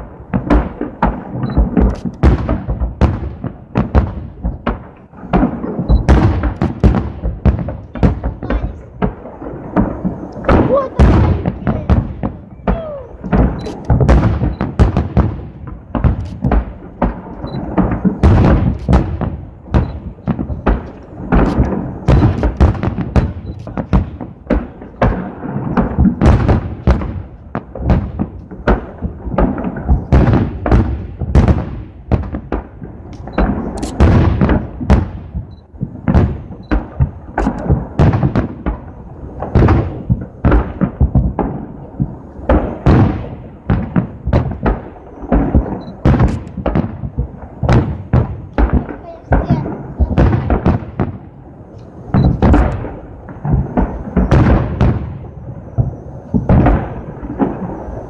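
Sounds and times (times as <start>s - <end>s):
firework shells booming: 0.0s - 58.0s.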